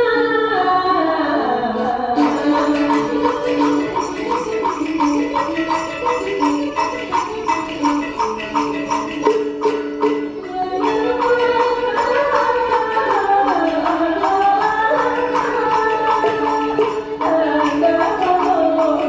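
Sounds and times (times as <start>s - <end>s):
rhythmic percussion strokes: 1.7s - 19.0s
wavering sliding melody: 1.7s - 19.0s.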